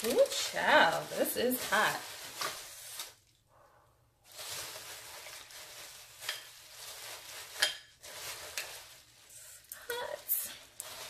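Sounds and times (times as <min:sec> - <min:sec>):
plastic bag crinkling: 0:00.0 - 0:03.4, 0:04.2 - 0:11.0.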